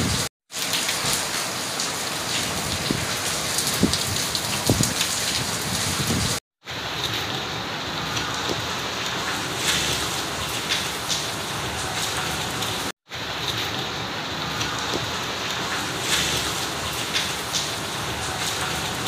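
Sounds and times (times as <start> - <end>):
drips and splashes: 0.0 - 19.0
rain falling on paving: 0.0 - 19.0.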